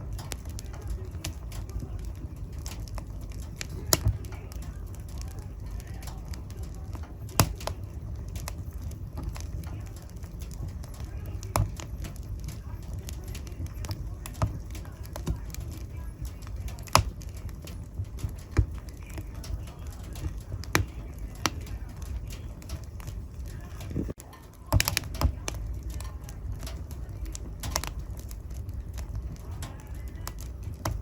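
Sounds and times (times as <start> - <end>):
sharp pops and snaps: 0.0 - 31.0
wood fire crackling: 0.0 - 31.0.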